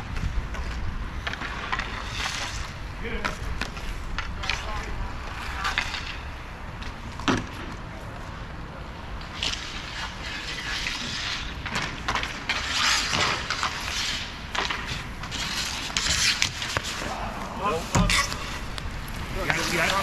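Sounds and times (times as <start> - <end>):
skates scraping: 0.0 - 20.0
hockey sticks clacking on puck: 0.1 - 7.8, 9.2 - 20.0.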